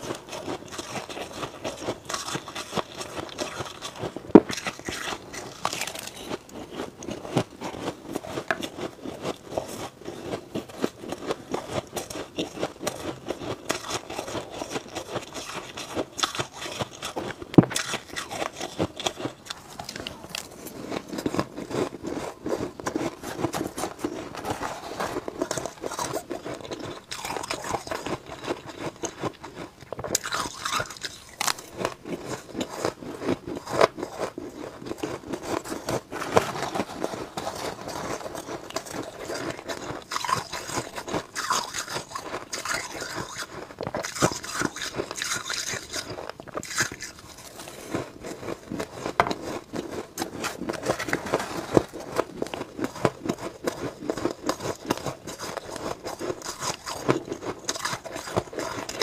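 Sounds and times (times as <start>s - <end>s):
crunching and chewing ice: 0.0s - 59.0s.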